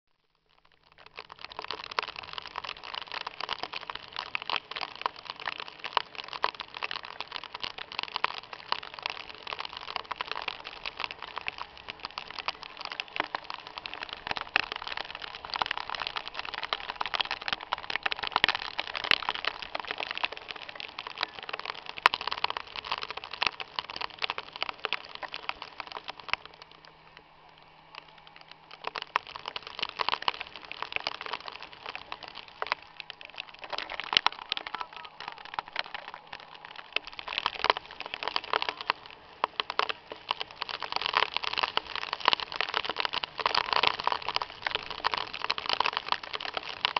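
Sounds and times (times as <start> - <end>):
hail and heavy rain pattering: 0.1 - 46.9.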